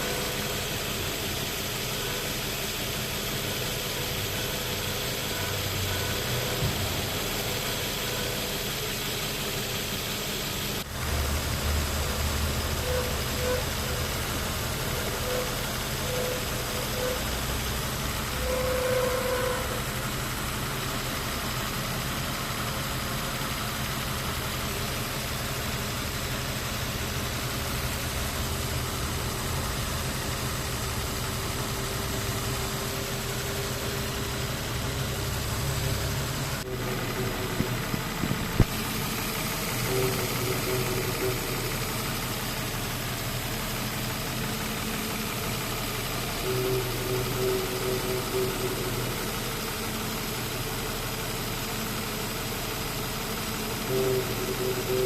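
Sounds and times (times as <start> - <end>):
car engine idling: 0.0 - 55.0
thin howling whine: 0.0 - 55.0.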